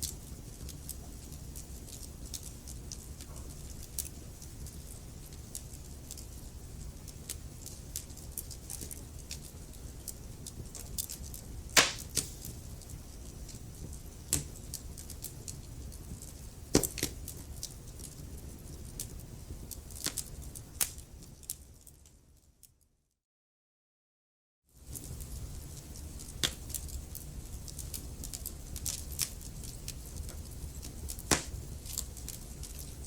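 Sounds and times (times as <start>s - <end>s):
wood fire crackling: 0.0s - 22.3s, 24.8s - 33.0s.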